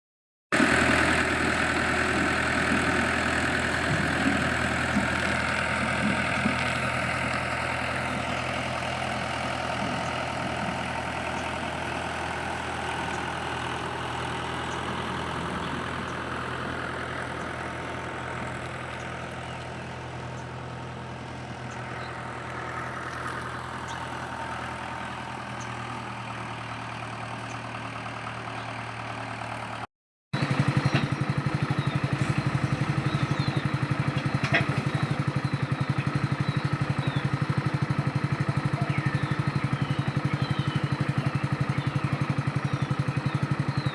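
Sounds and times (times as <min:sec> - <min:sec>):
tractor engine idling: 0:00.5 - 0:43.9.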